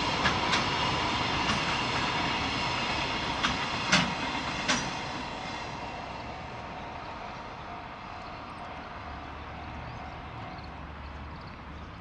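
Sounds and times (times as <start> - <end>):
freight train wagons rumbling: 0.0 - 12.0.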